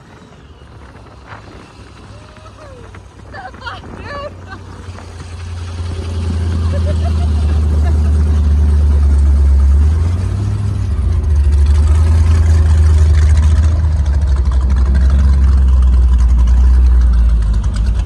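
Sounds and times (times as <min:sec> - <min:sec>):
boat engine rumbling: 0:00.0 - 0:18.0
wind: 0:00.0 - 0:18.0.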